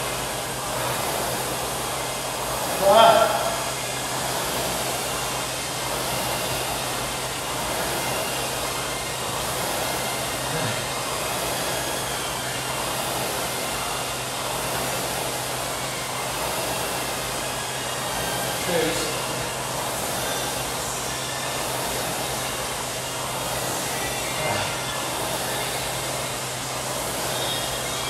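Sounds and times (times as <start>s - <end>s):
rowing machine flywheel whirring: 0.0s - 28.0s.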